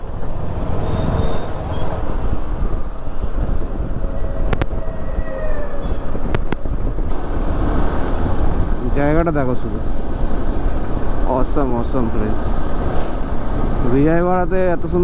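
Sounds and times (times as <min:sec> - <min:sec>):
motorcycle engine and road drone: 0:00.0 - 0:15.0
wind rushing on microphone: 0:00.0 - 0:15.0.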